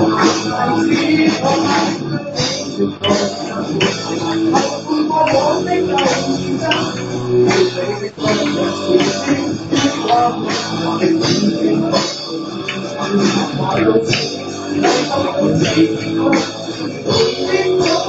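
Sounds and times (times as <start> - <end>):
drum kit beat: 0.0 - 18.0
guitar: 0.0 - 18.0.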